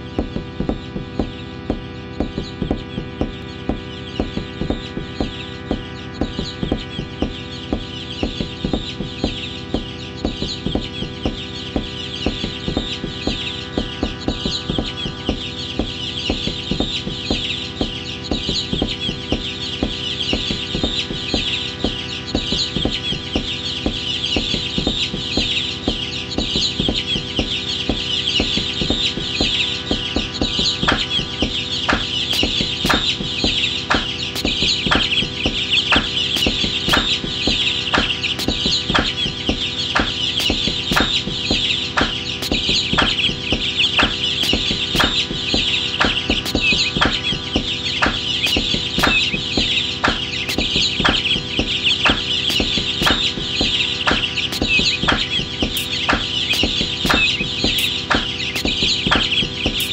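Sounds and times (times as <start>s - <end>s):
synth chords: 0.0s - 59.9s
bird call chatter: 2.1s - 59.9s.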